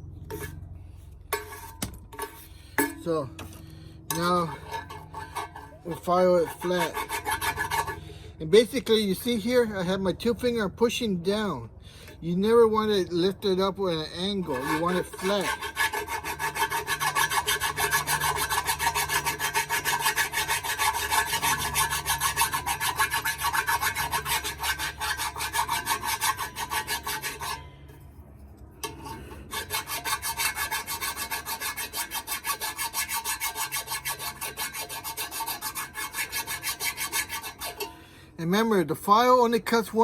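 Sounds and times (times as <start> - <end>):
hand file scraping metal: 0.3 - 0.6, 1.3 - 10.4, 12.0 - 40.0.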